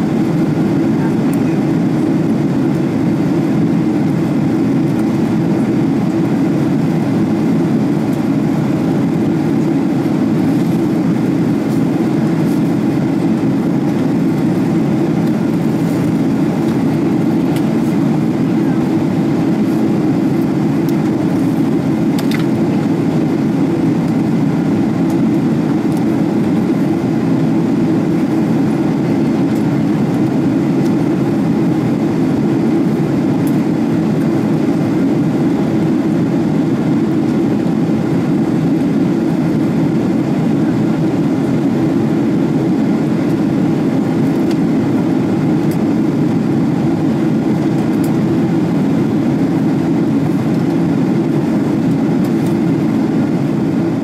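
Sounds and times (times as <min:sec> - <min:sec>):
air rushing along fuselage: 0:00.0 - 0:54.0
jet engine drone: 0:00.0 - 0:54.0.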